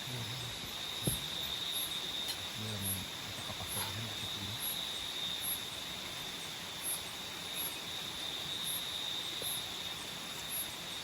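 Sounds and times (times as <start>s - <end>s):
insect chirping: 0.0s - 11.0s
insect high steady trill: 0.0s - 11.0s
steady hiss: 0.0s - 11.0s.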